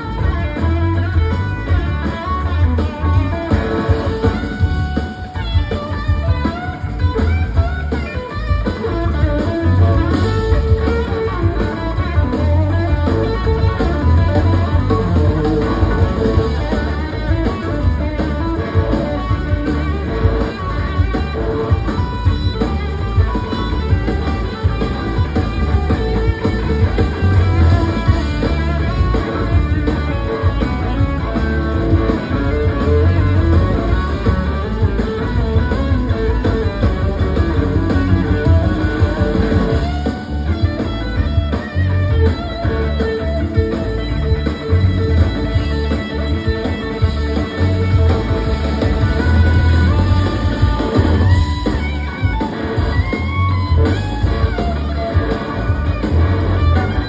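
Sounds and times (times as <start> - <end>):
bass guitar: 0.0 - 57.0
drums: 0.0 - 57.0
electric guitar solo: 0.0 - 57.0.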